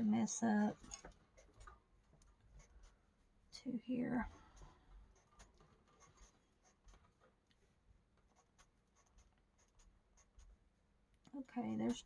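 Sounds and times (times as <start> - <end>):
faint scratching of colouring strokes: 0.0 - 12.0.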